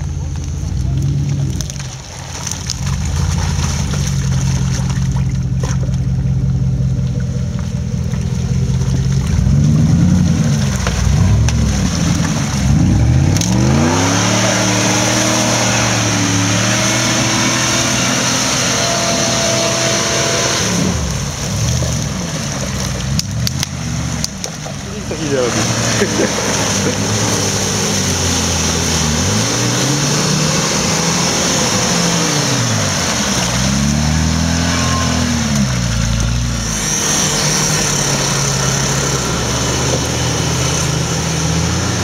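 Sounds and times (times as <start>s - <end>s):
off-road vehicle engine revving: 0.0s - 42.0s.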